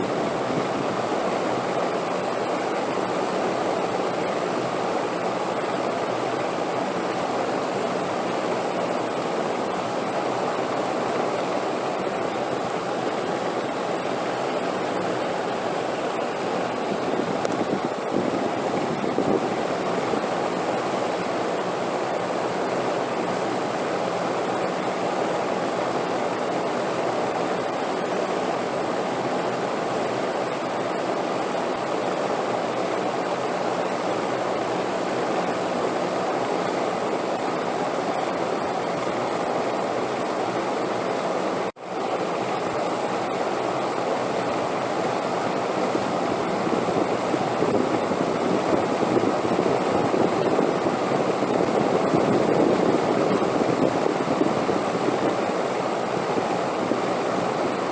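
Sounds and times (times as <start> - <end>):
rushing wind: 0.0 - 57.9.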